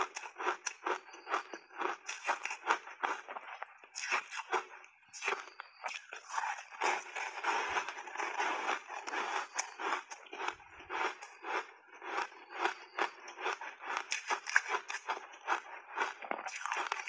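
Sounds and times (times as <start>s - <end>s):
ice crunching between teeth: 0.0s - 17.0s.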